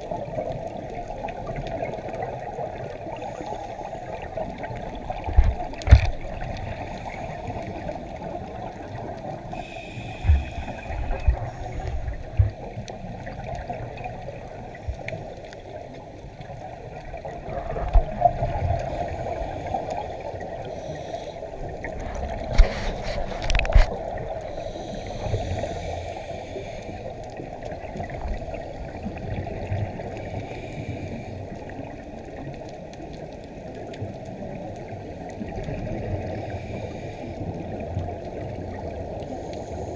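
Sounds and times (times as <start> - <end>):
muffled underwater hiss: 0.0 - 39.9.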